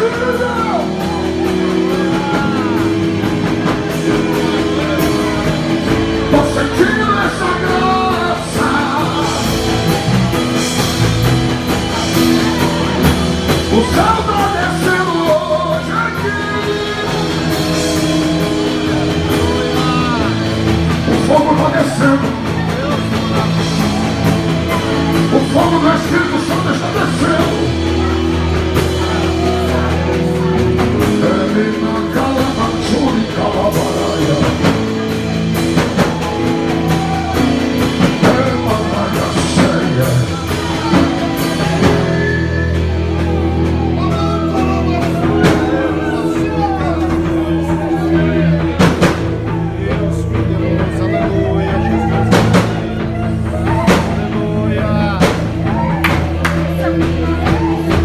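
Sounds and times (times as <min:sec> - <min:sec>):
lead singer singing: 0:00.0 - 0:58.0
sustained keyboard chords: 0:00.0 - 0:58.0
worship band playing: 0:00.0 - 0:58.0.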